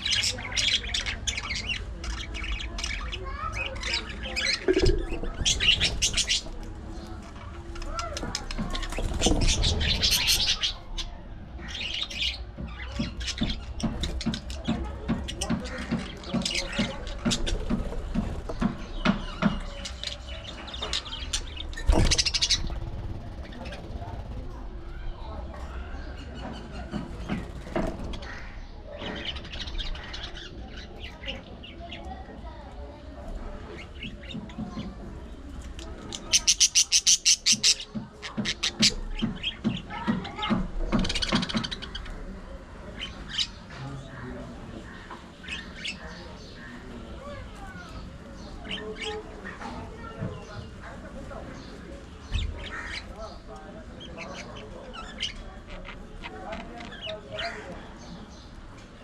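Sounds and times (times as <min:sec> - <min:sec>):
budgerigars chattering: 0:00.0 - 0:24.4, 0:26.0 - 0:32.1, 0:35.8 - 0:49.8, 0:50.5 - 0:59.0.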